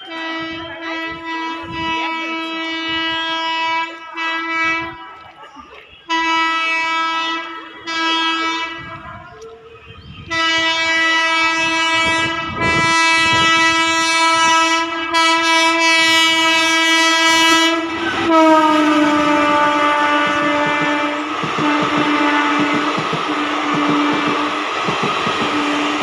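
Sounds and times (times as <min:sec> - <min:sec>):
locomotive horn blasts: 0:00.0 - 0:05.3, 0:06.0 - 0:09.2, 0:10.2 - 0:26.0
train wheels rumbling on rails: 0:00.0 - 0:26.0.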